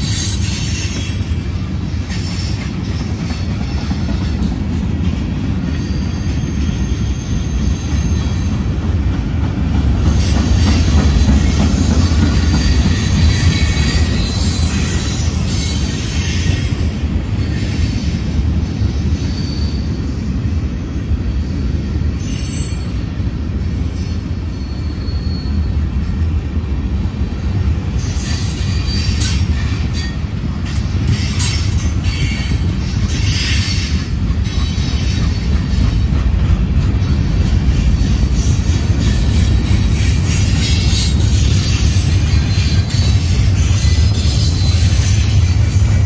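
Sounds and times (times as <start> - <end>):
high wheel squeal: 0.0 - 4.4, 5.6 - 8.8, 10.0 - 20.2, 22.2 - 25.9, 28.0 - 35.9, 37.4 - 46.0
train wheels rumbling on rail: 0.0 - 46.0.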